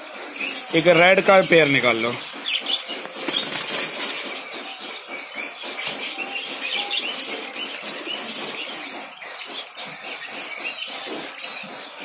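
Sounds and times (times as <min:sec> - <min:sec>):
high bird chirps: 0:00.0 - 0:12.0
pigeon wingbeats and rustling: 0:00.4 - 0:12.0.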